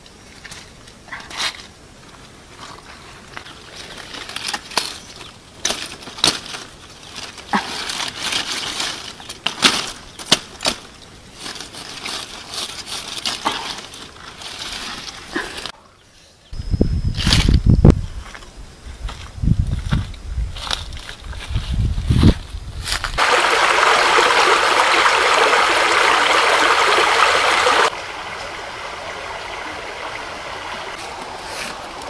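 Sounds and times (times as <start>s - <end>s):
leaves rustling: 0.0s - 15.8s, 16.6s - 32.0s.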